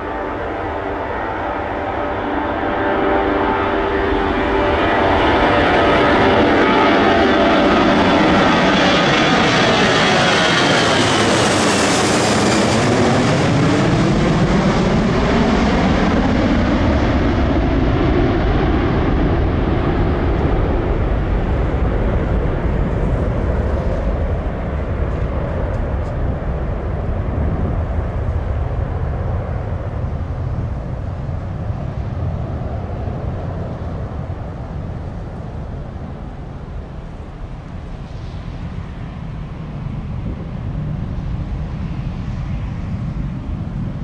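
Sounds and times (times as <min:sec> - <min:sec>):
jet engines passing overhead: 0:00.0 - 0:44.0.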